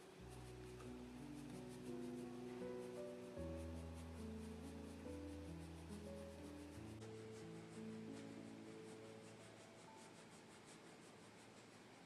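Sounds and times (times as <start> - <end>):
soft music with held notes: 0.0 - 11.0
quick rhythmic high hiss: 0.0 - 12.0.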